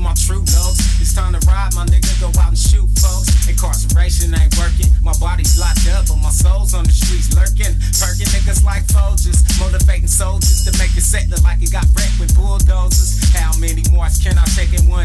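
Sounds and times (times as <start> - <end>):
rapping over a beat: 0.0 - 15.0.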